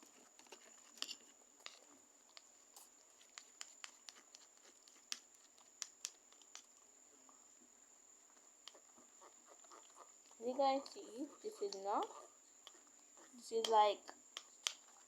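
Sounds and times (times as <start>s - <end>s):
utensil stirring slime: 0.0s - 6.9s, 8.6s - 15.0s
faint high-pitched whine: 0.0s - 15.0s.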